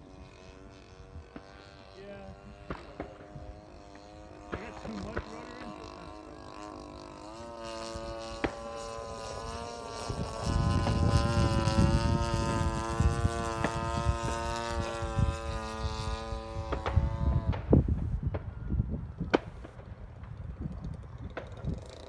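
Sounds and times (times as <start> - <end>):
model airplane engine buzzing: 0.0 - 22.0
wind buffeting microphone: 0.0 - 22.0.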